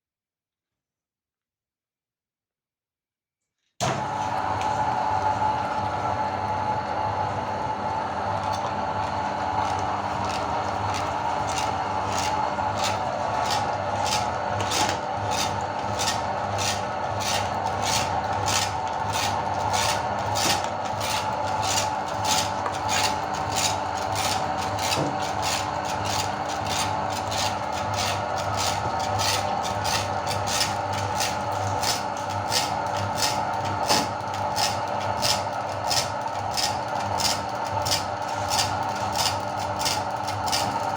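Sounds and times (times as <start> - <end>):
electric grinder motor humming: 4.0 - 40.9.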